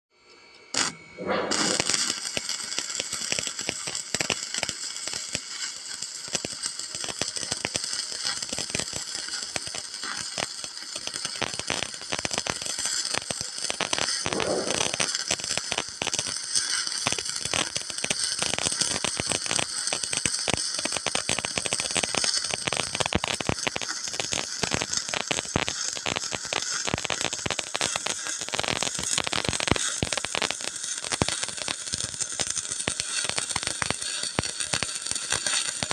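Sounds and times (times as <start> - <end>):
arc welding crackle and hiss: 0.7 - 35.9.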